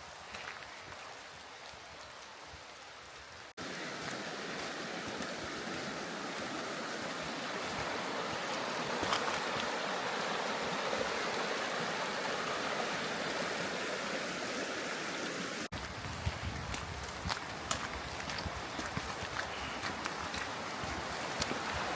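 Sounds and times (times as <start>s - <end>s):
stream flowing: 0.0s - 21.9s.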